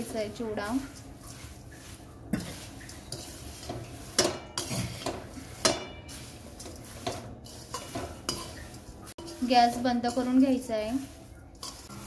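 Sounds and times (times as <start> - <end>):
dry flakes rustling: 0.0 - 12.0
spatula scraping and knocking pan: 0.0 - 12.0.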